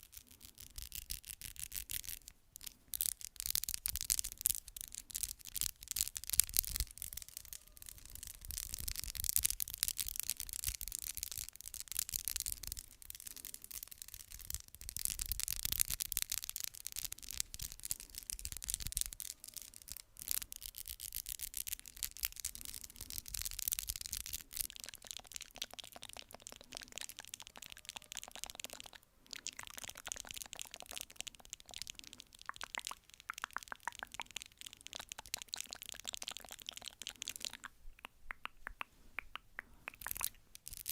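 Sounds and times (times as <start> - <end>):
rapid crisp tapping: 0.0 - 40.9.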